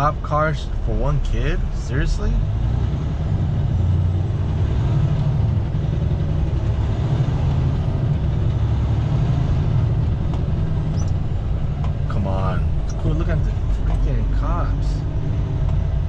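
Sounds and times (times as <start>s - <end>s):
road noise: 0.0s - 16.0s
truck diesel engine rumble: 0.0s - 16.0s.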